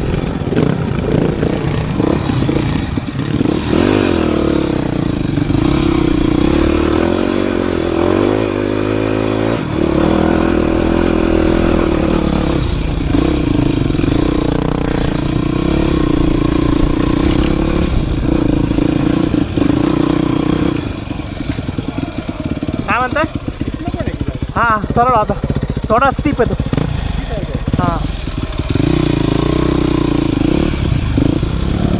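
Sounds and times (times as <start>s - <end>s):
dirt bike engine: 0.0s - 31.9s.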